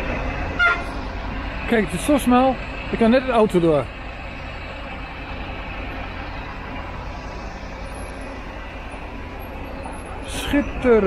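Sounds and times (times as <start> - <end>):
van engine running: 0.0 - 11.0.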